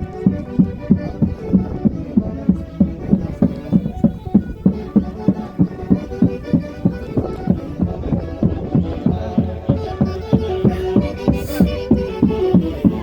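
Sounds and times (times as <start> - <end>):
folk orchestra melody: 0.0 - 13.0
low drum strokes: 2.6 - 13.0.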